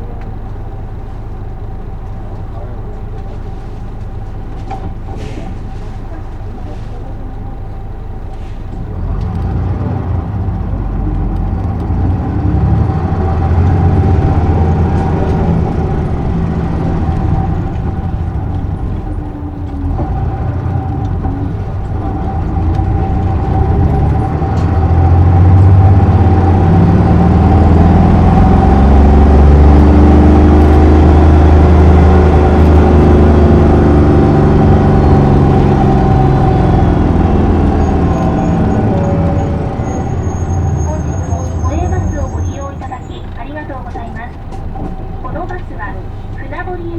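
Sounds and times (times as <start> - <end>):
bus diesel engine: 0.0 - 46.9
road noise: 0.0 - 46.9.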